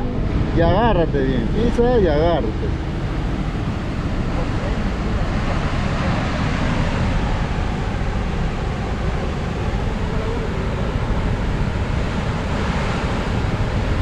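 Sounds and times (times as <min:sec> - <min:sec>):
sea surf rushing: 0:00.0 - 0:14.0
wind buffeting microphone: 0:00.0 - 0:14.0.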